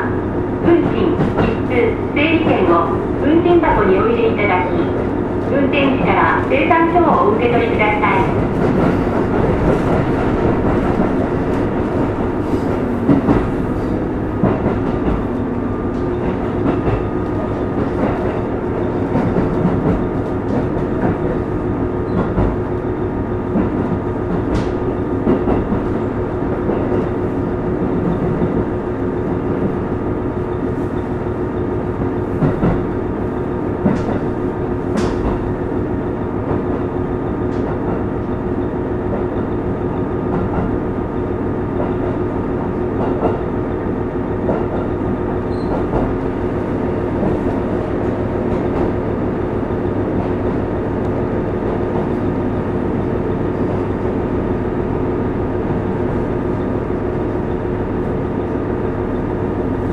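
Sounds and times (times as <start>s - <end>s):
railcar engine running: 0.0s - 59.9s.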